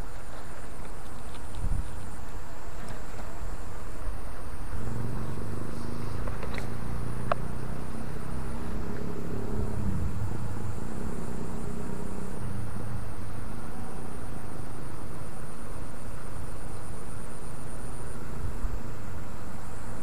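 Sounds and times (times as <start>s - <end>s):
distant engine rumble: 0.0s - 20.0s
high whine: 0.0s - 20.0s.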